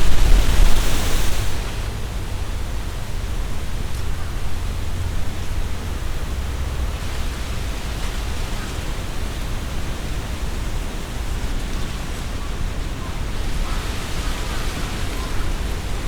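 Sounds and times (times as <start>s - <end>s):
wind rustling leaves: 0.0s - 16.0s.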